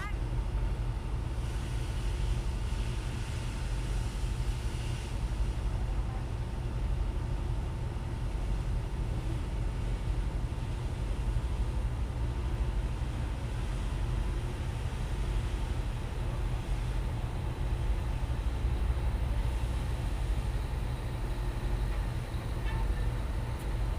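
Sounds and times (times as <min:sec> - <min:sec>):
faint steady whine: 0:00.0 - 0:23.9
boat engine rumbling: 0:03.1 - 0:23.9.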